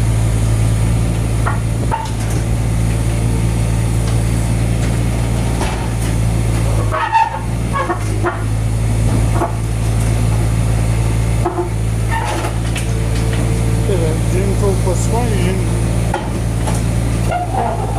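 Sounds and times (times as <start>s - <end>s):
engine humming: 0.0s - 17.9s.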